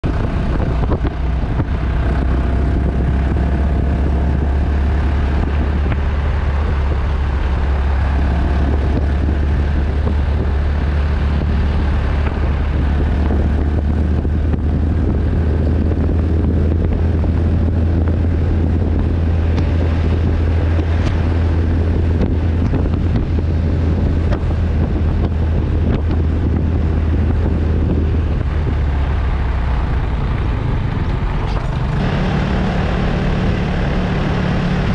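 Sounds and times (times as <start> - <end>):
vehicle engine and tyres droning: 0.0 - 34.9
wind rush on microphone: 0.0 - 34.9.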